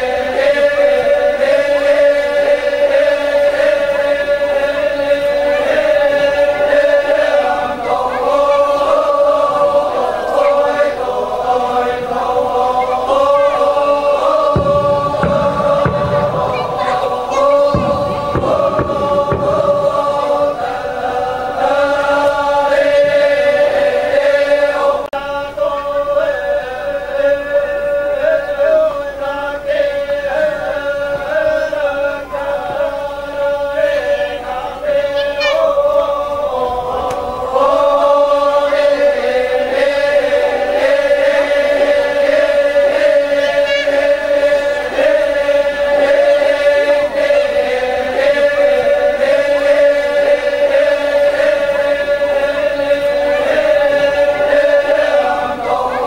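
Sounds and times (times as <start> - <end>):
group chanting drone: 0.0 - 56.0.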